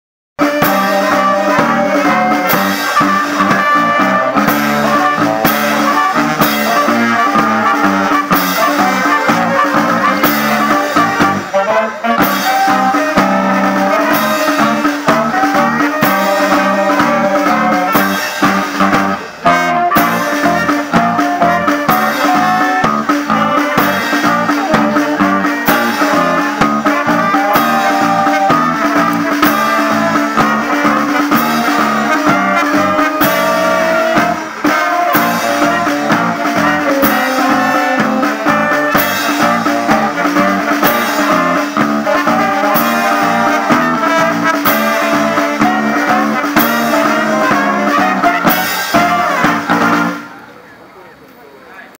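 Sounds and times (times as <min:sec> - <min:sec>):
brass band playing upbeat tune: 0:00.4 - 0:50.5.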